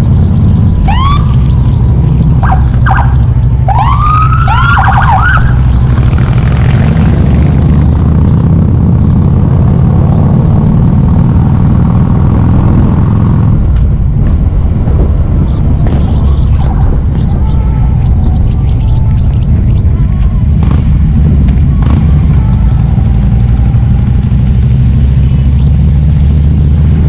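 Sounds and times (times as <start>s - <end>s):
swooping siren-like tones: 0.0s - 7.0s, 9.4s - 25.9s
motorcycle engine rumbling: 0.0s - 27.0s.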